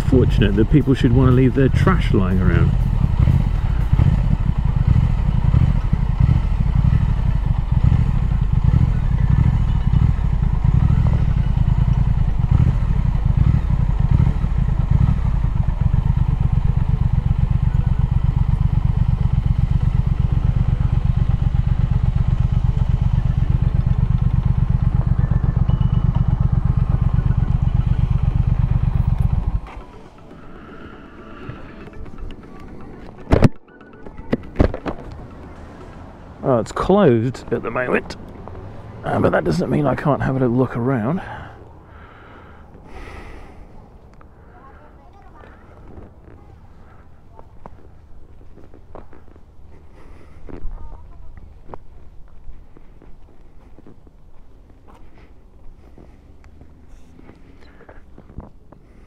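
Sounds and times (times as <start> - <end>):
motorcycle engine idling: 0.0 - 33.7, 34.4 - 59.0.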